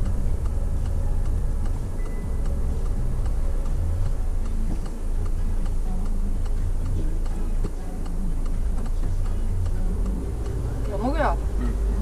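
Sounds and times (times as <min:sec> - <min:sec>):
engine and road noise hum: 0:00.0 - 0:12.0
turn signal ticking: 0:00.0 - 0:12.0.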